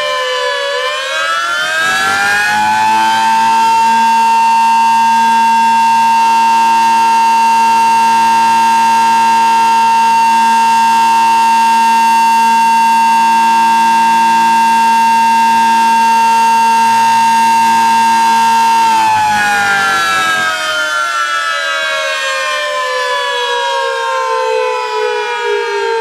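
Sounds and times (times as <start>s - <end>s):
warning siren steady high tone: 0.0s - 26.0s.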